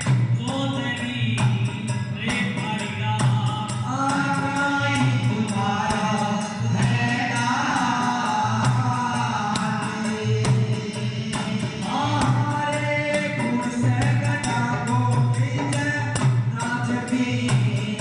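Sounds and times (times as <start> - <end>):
rhythmic hand percussion: 0.0 - 18.0
person singing devotional melody: 0.3 - 18.0.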